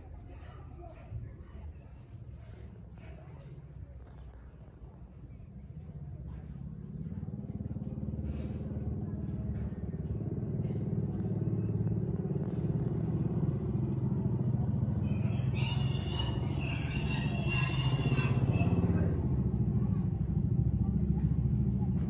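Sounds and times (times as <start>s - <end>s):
engine rumbling: 0.0s - 22.0s.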